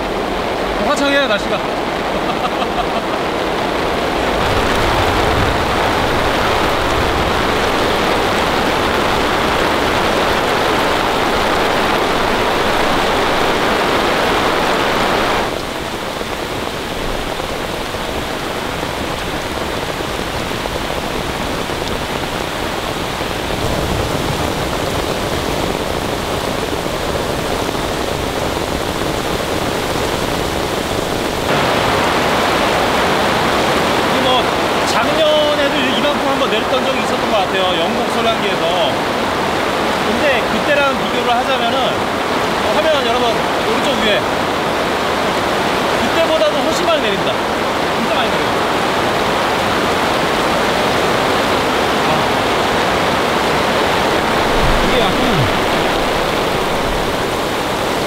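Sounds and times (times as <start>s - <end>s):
heavy rain on a tarp: 0.0s - 58.0s.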